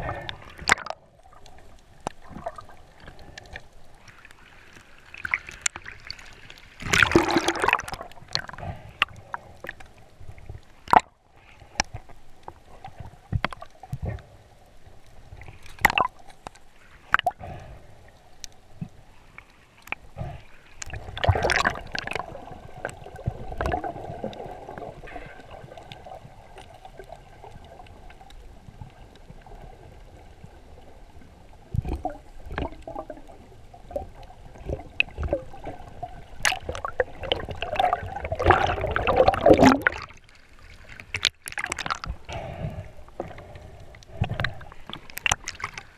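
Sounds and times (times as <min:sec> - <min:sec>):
rushes of water: 0:00.0 - 0:45.9
water sloshing and gurgling: 0:00.0 - 0:45.9.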